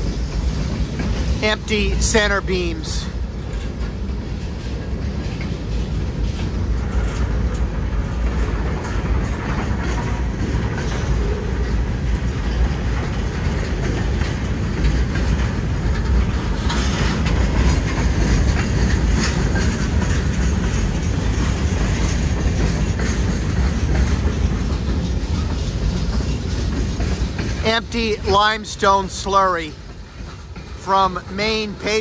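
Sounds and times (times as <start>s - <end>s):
freight train rumbling past: 0.0s - 32.0s
wheels clicking over rail joints: 2.8s - 32.0s.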